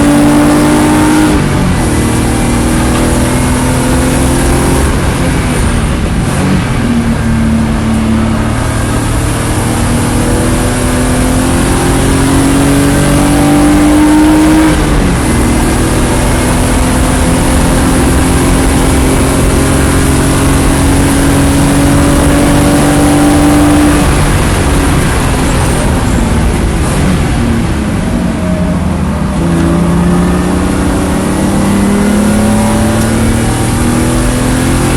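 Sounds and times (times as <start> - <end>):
race car engine accelerating: 0.0 - 34.9.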